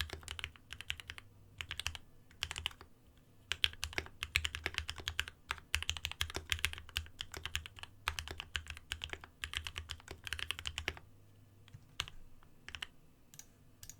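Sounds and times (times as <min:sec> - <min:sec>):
fast typing on keyboard: 0:00.0 - 0:02.9, 0:03.5 - 0:11.1, 0:11.7 - 0:12.9.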